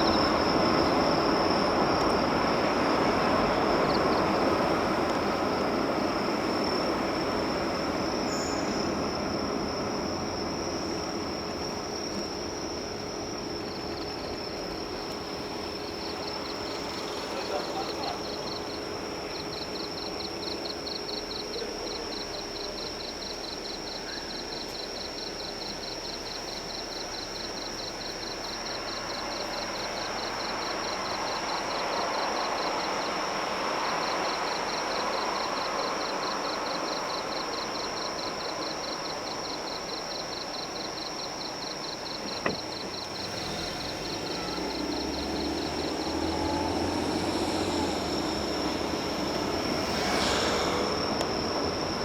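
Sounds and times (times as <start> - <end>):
high-pitched whine: 0.0 - 32.9, 43.2 - 52.0
car road and engine noise: 0.0 - 52.0.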